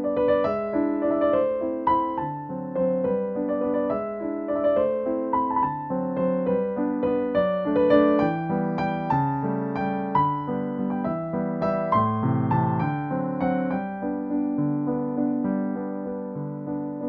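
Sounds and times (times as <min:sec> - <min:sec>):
piano keyboard melody: 0:00.0 - 0:17.0.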